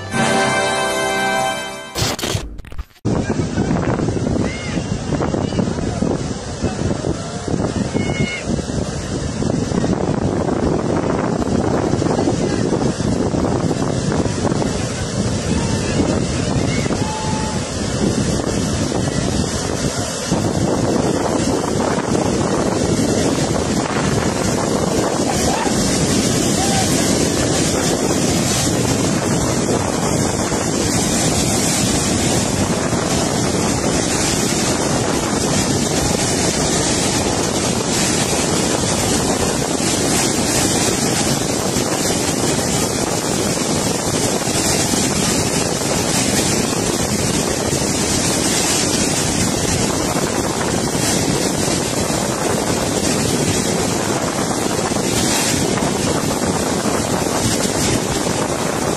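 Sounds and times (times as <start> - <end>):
floodwater rushing: 0.0 - 58.9
wind buffeting microphone: 3.0 - 58.9.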